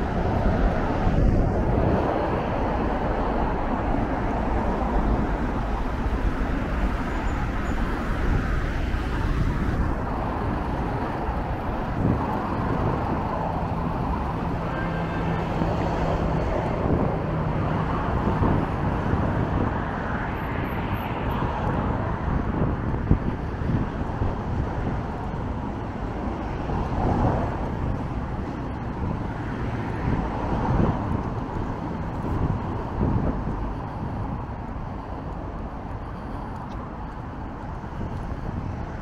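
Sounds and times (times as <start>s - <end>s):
passing cars and lorries: 0.0s - 39.0s.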